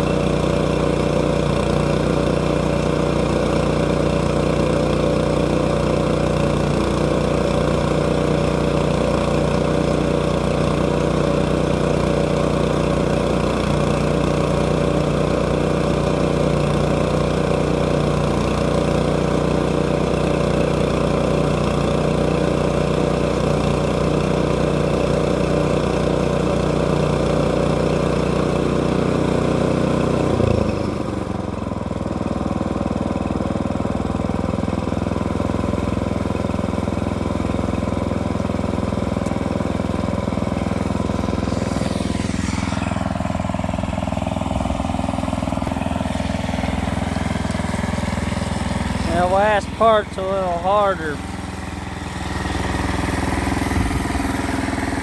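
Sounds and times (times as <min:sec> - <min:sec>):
mill cutting through log: 0:00.0 - 0:55.0
sawmill engine running: 0:00.0 - 0:55.0.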